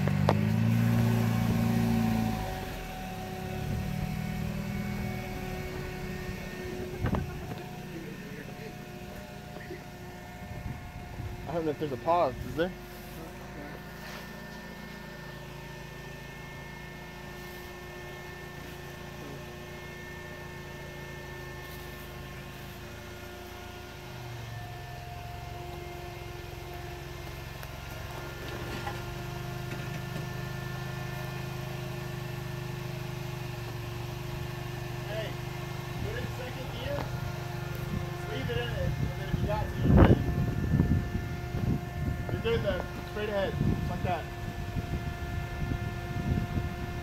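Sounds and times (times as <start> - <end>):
car engine running at low revs: 0.0 - 47.0.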